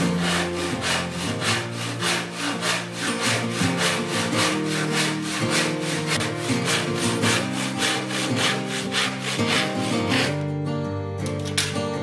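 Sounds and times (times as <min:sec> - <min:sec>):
hand saw cutting wood: 0:00.0 - 0:10.5.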